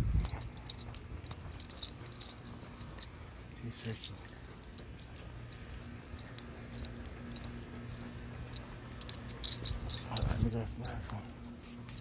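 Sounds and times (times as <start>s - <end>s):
dog chain collar clinking: 0.0s - 12.0s
low hum: 0.0s - 12.0s.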